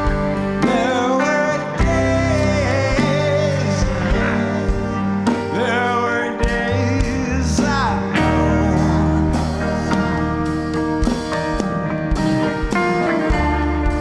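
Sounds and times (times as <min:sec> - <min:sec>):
country song with guitar: 0:00.0 - 0:14.0.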